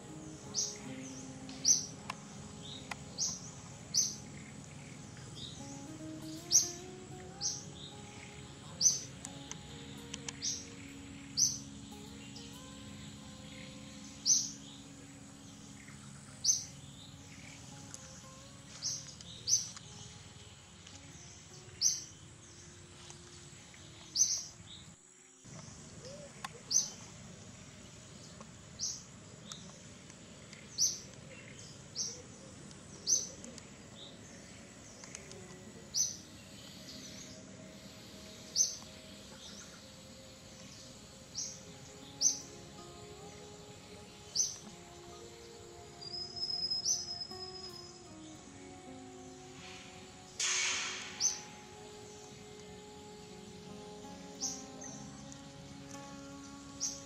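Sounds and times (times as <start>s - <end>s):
bird chirping: 0.0s - 57.0s
steady background hiss: 0.0s - 57.0s.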